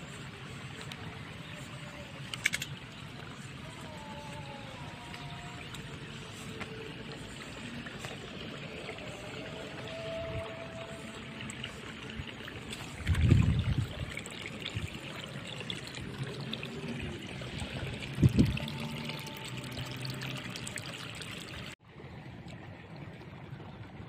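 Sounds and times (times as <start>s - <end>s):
water trickling and pouring: 0.0s - 24.0s.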